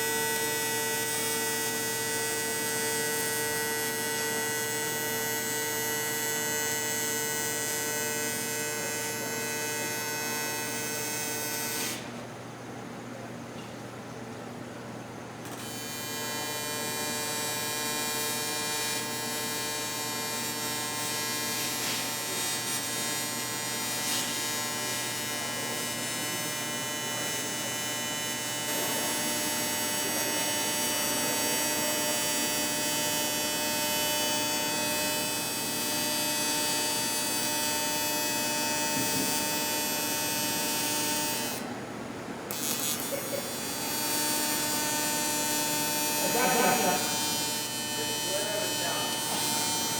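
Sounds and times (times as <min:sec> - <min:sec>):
welding arc buzz: 0:00.0 - 0:12.2, 0:15.4 - 0:49.9.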